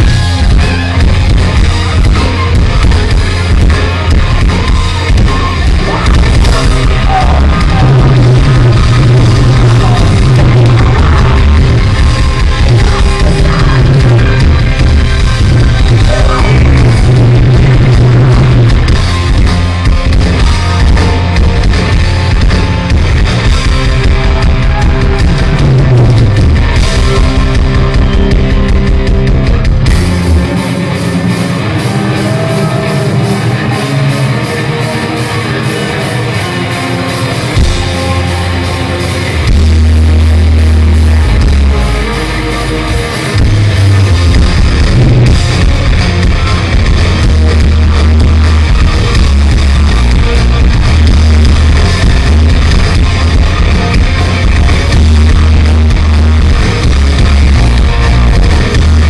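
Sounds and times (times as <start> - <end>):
heavy metal band playing live: 0.0 - 59.0.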